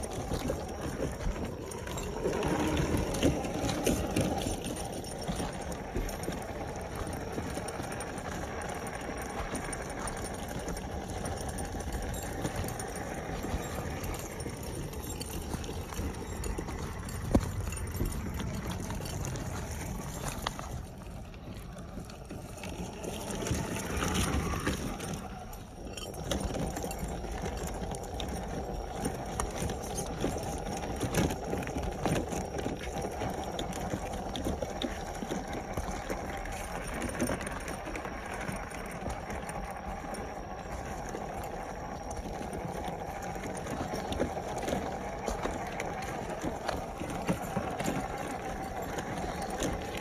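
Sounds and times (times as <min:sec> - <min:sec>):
clattering tyres and chassis: 0:00.0 - 0:50.0
rc car motor: 0:00.0 - 0:50.0.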